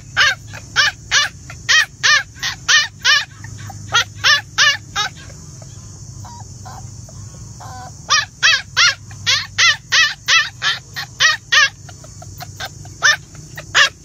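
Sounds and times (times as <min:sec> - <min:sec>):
puppy yapping: 0:00.0 - 0:14.0.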